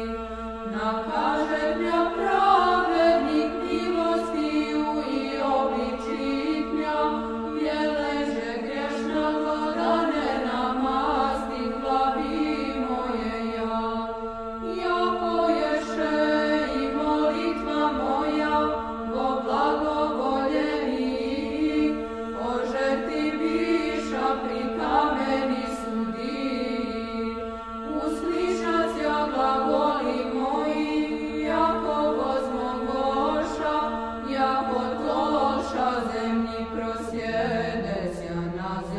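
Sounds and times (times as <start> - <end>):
choir chanting: 0.0 - 38.9.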